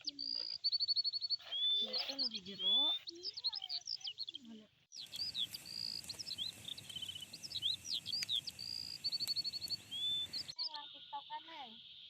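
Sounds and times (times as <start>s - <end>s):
songbird singing: 0.0s - 12.0s
bird rapid trills: 0.1s - 4.4s, 5.0s - 12.0s.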